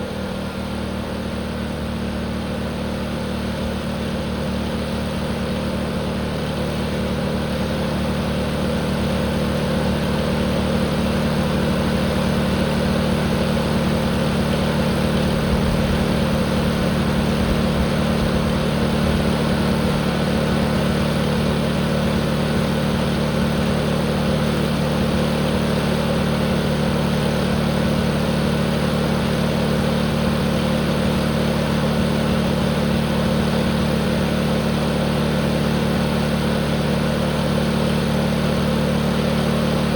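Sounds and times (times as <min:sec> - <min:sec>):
tractor engine at full throttle: 0:00.0 - 0:39.9.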